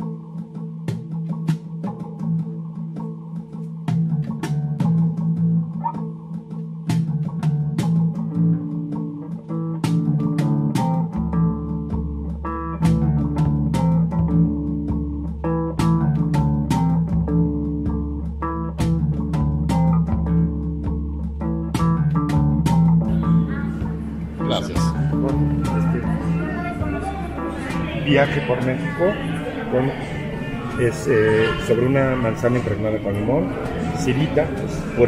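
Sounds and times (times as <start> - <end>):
guitar: 0.0 - 35.0
bass line: 3.8 - 35.0.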